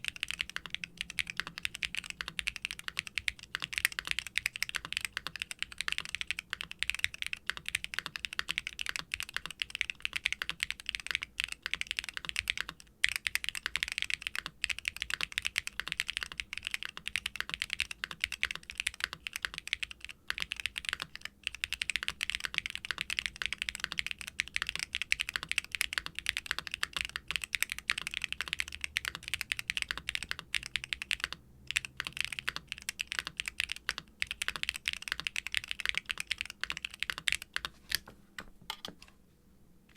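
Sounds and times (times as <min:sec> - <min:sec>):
fast typing on mechanical keyboard: 0:00.0 - 0:38.0.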